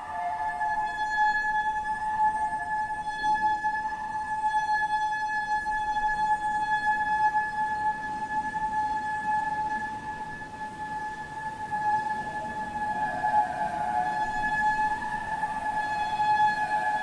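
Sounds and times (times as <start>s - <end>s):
shofar long held note: 0.0s - 8.0s, 11.3s - 17.0s.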